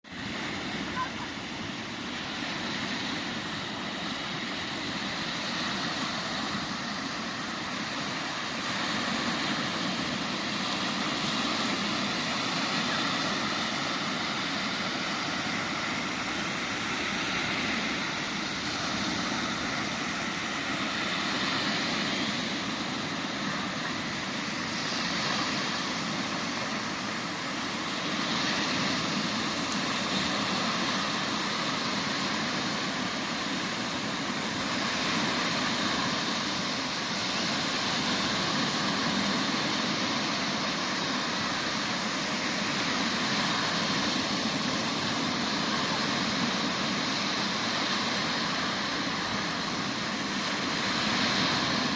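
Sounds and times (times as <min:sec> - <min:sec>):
sea waves breaking on beach: 0:00.0 - 0:51.9.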